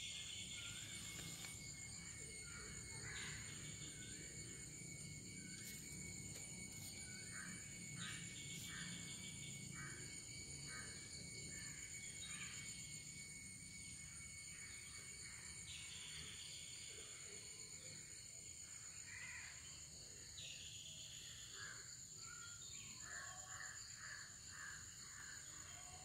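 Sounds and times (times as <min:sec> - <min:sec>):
insect drone: 0:00.0 - 0:26.0
short insect calls: 0:00.0 - 0:26.0.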